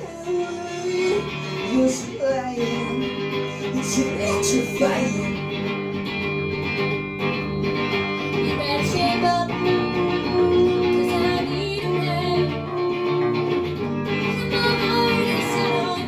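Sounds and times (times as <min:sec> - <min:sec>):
guitar strumming in pop song: 0:00.0 - 0:16.0.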